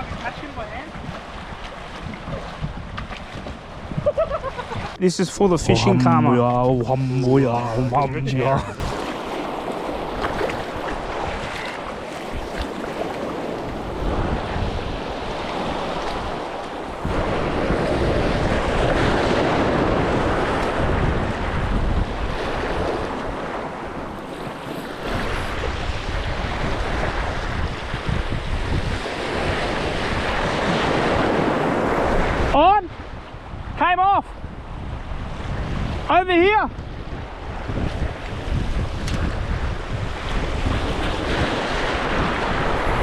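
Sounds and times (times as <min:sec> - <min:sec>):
small waves washing: 0:00.0 - 0:33.6, 0:36.9 - 0:43.0
wind buffeting microphone: 0:00.0 - 0:43.0.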